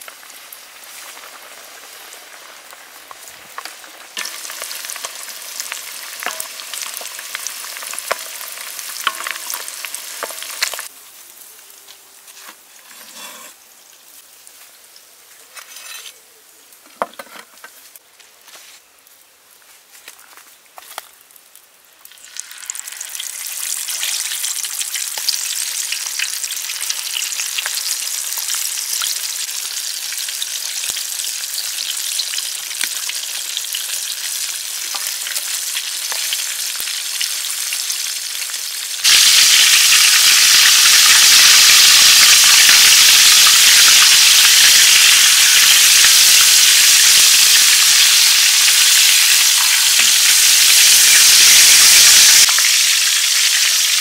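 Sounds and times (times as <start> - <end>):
chicken deep-frying in oil: 0.0 - 16.7, 21.5 - 54.0.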